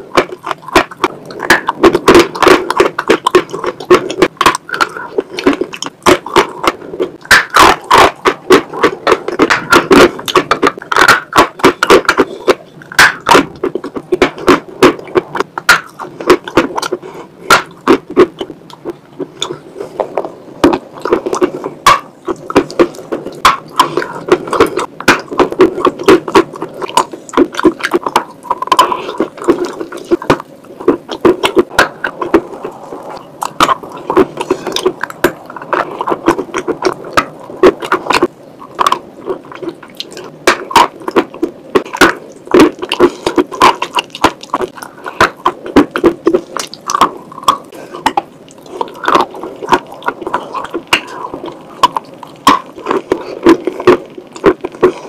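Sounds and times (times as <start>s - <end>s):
chalk crunching while chewing: 0.0s - 55.0s
wet mouth clicks: 0.1s - 55.0s.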